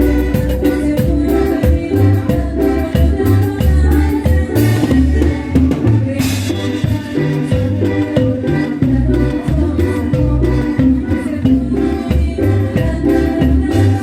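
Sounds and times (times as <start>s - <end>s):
cumbia band playing live: 0.0s - 14.0s.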